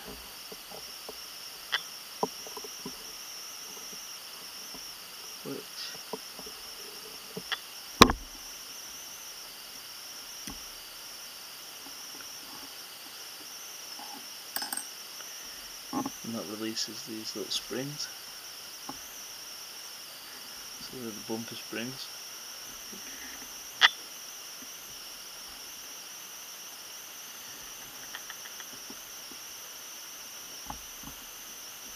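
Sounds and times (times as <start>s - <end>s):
steady high-pitched hiss: 0.0s - 31.9s.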